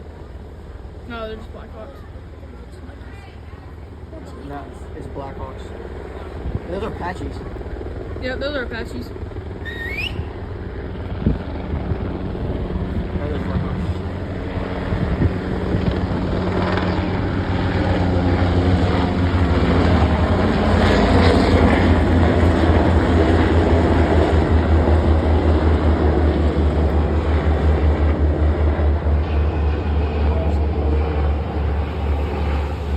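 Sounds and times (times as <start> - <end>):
helicopters passing overhead: 0.0 - 32.9.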